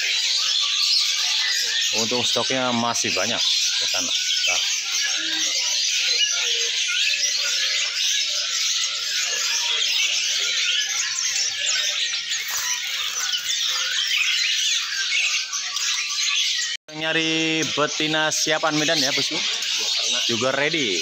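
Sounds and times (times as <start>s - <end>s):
songbirds chirping and singing: 0.0s - 21.0s.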